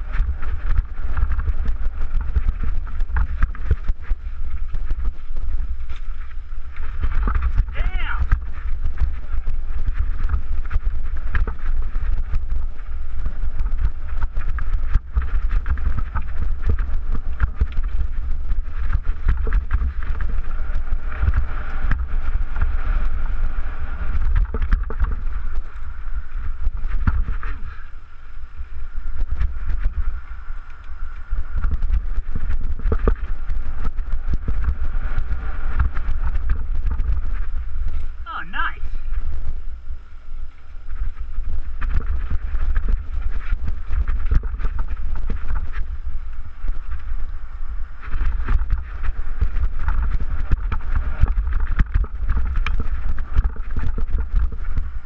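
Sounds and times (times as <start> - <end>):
mountain bike rattling over rocks: 0.0 - 38.2, 39.2 - 55.0
wind rumbling on microphone: 0.0 - 55.0.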